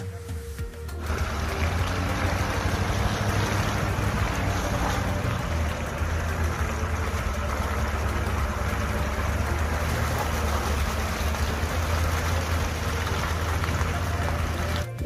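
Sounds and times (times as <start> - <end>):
road rumble and hiss: 0.0 - 15.0
vehicle engine drone: 0.0 - 15.0.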